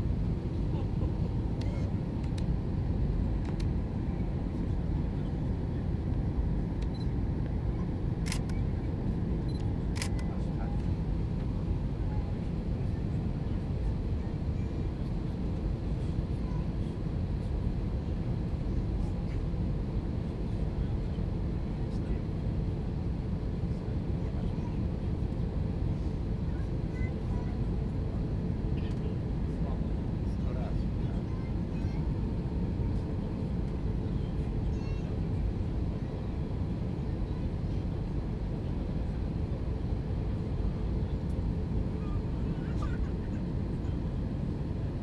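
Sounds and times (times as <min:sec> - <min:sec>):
airliner cabin rumble: 0:00.0 - 0:45.0.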